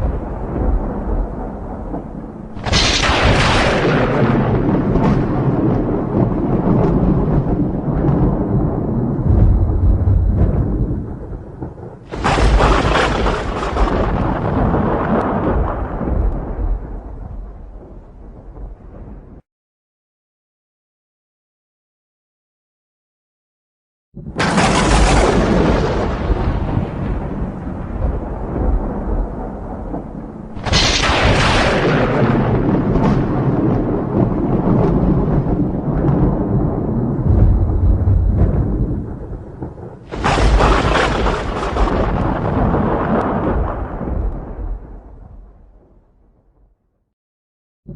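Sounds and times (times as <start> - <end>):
rain: 0.0 - 19.1, 24.4 - 45.0
sharp thunderclap: 0.0 - 19.4, 24.2 - 46.7
thunder rumbling: 0.0 - 19.4, 24.2 - 46.8.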